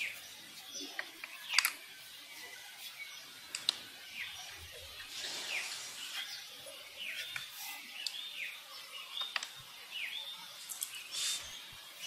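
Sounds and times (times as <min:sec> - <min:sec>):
high chirping calls: 0:00.0 - 0:12.0
outdoor background noise: 0:00.0 - 0:12.0.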